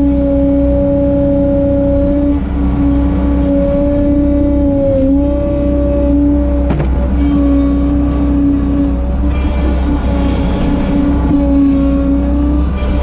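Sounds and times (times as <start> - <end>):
skid steer engine drone: 0.0 - 13.0.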